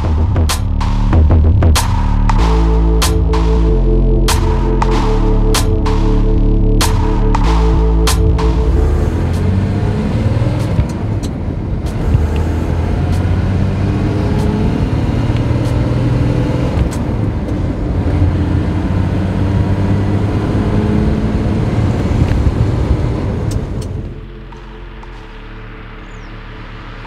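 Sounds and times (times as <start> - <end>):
car engine under load: 0.0 - 27.0.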